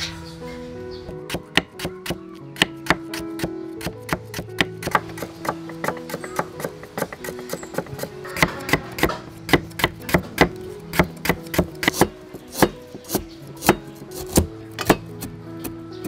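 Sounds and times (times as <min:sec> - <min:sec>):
soft guitar music: 0:00.0 - 0:16.0
cleaver chopping on wooden board: 0:01.3 - 0:15.8.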